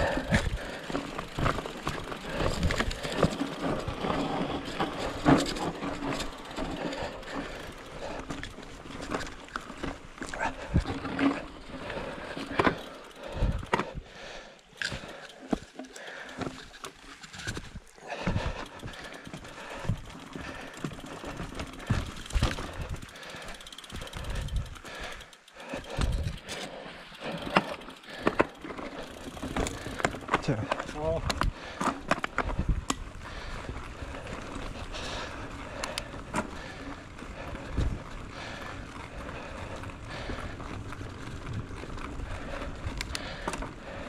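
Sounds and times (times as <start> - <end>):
bike knocking and rattling: 0.0 - 44.0
bike tyres on rough trail: 0.0 - 44.0.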